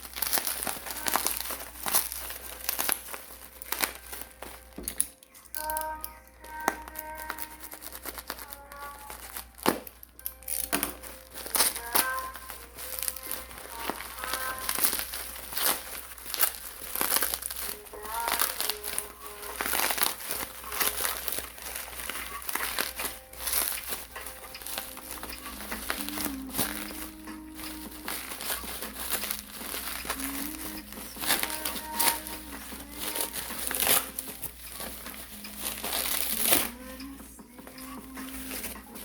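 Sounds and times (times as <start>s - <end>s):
background music: 0.0s - 39.0s
packaging crinkling and rustling: 0.0s - 39.0s.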